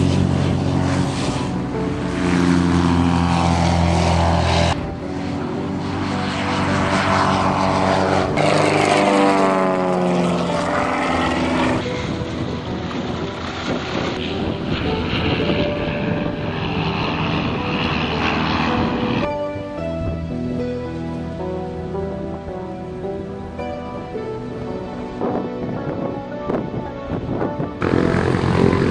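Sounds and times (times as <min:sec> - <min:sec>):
light aircraft flying low: 0:00.0 - 0:28.9.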